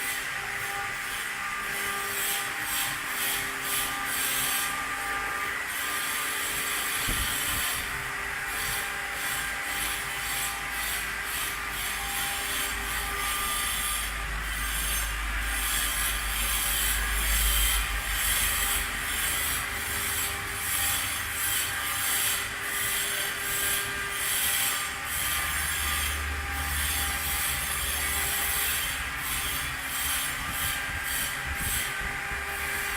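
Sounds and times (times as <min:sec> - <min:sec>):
machine grinding stone: 0:00.0 - 0:32.9.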